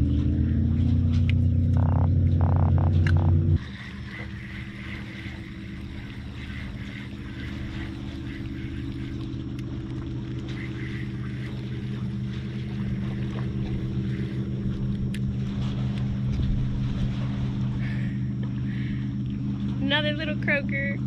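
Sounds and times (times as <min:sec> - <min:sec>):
engine drone: 0:00.0 - 0:21.0.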